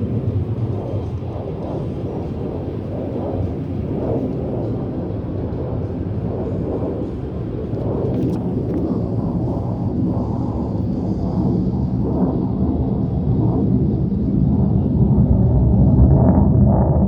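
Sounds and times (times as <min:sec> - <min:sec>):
low rumbling drone from sky: 0:00.0 - 0:17.0.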